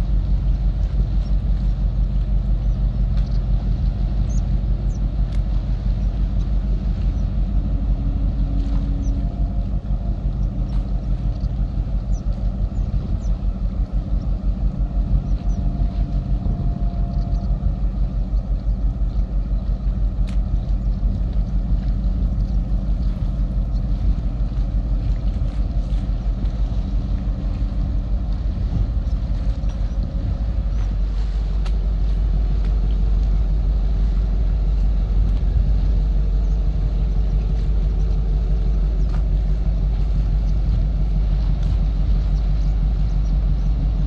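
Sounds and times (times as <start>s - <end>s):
fluttering low rumble: 0.0s - 44.0s.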